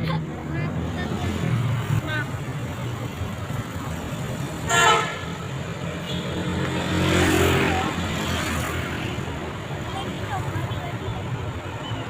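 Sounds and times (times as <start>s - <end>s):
vehicle passing: 0.4s - 11.6s.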